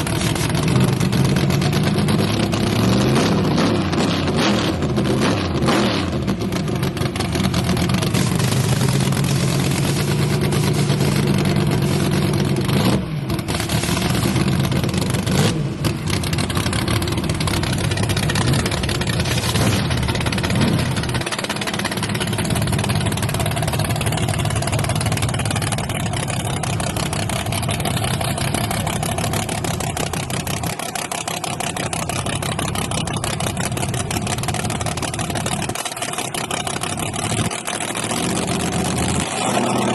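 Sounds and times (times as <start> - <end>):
truck engines running: 0.0 - 39.9.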